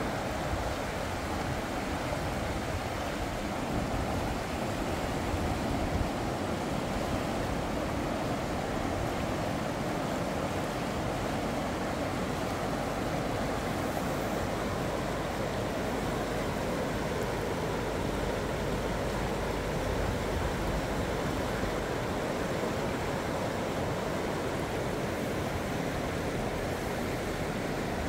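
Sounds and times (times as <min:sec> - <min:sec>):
river water rushing over rapids: 0:00.0 - 0:28.0.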